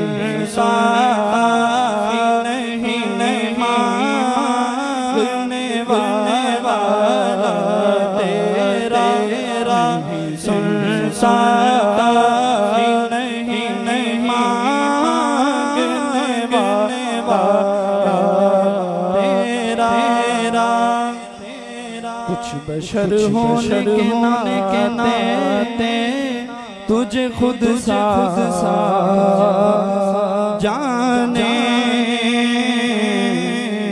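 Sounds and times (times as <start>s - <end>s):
man singing into a microphone: 0.0s - 33.9s.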